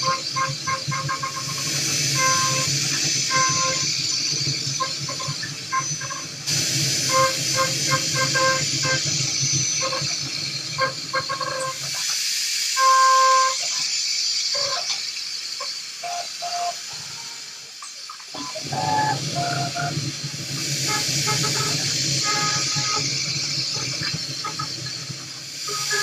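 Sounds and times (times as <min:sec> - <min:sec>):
hiss of coolant spray: 0:00.0 - 0:26.0.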